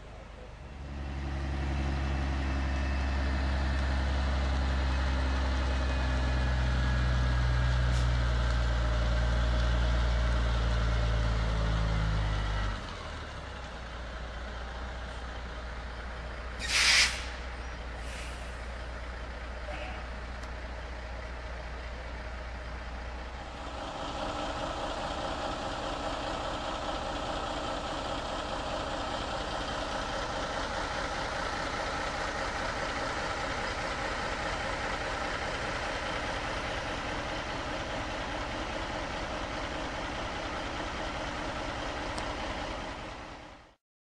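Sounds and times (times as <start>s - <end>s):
heavy truck engine idling: 0.0s - 43.8s.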